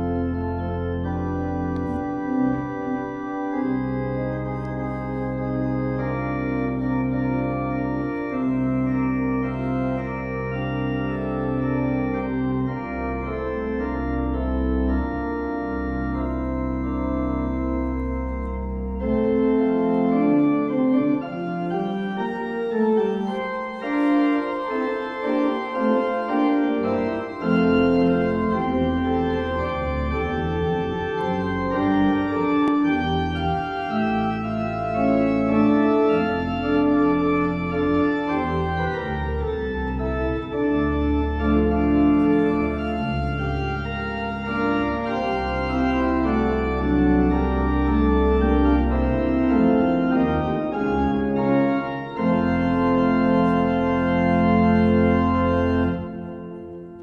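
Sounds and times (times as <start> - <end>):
church organ chords: 0.0 - 57.0
deep organ pedal bass notes: 0.0 - 57.0.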